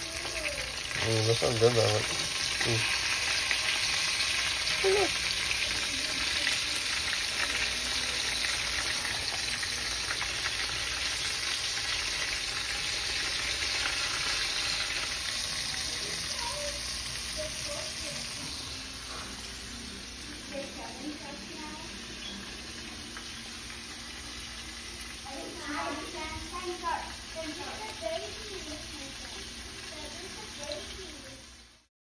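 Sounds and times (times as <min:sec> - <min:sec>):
oil sizzling and bubbling: 0:00.0 - 0:31.9.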